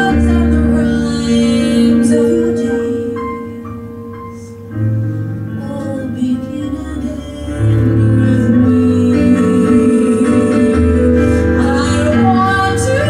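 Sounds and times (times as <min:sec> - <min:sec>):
woman singing into a microphone: 0:00.0 - 0:04.6, 0:05.5 - 0:13.0
instrumental accompaniment: 0:00.0 - 0:13.0.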